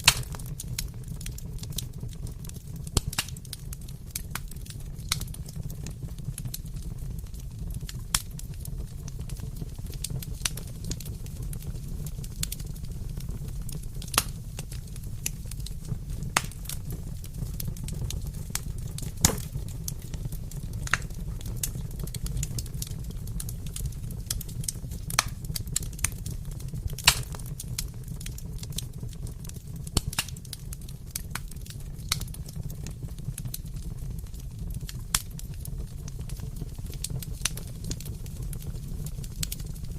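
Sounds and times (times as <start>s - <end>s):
fire crackling and popping: 0.0s - 39.9s
wood fire flames rumbling: 0.0s - 39.9s.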